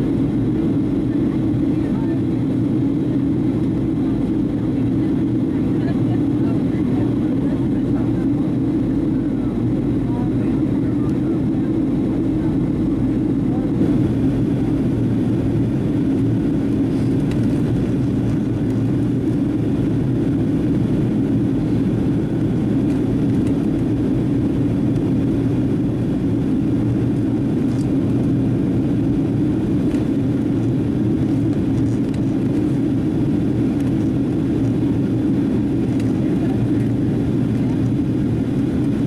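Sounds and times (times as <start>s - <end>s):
airliner cabin engine drone: 0.0s - 39.0s.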